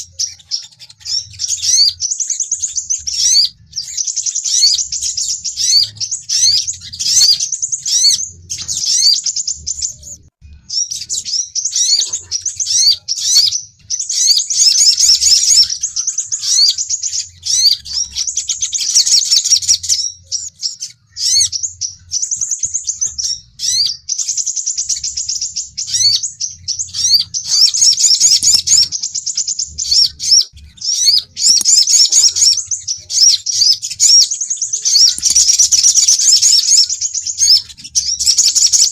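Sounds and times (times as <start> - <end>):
sunbirds chirping and trilling: 0.0 - 38.9.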